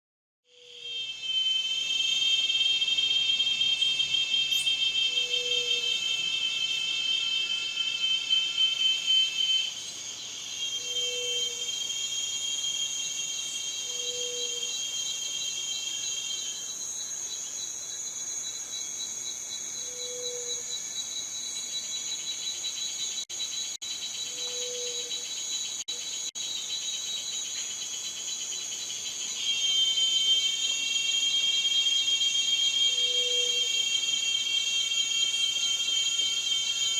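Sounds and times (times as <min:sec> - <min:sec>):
cicadas buzzing: 0:00.5 - 0:36.9.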